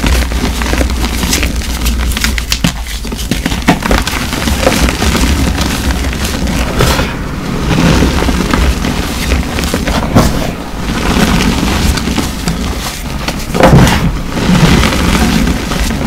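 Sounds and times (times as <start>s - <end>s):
hands crushing chalk: 0.0s - 7.1s, 7.7s - 16.0s.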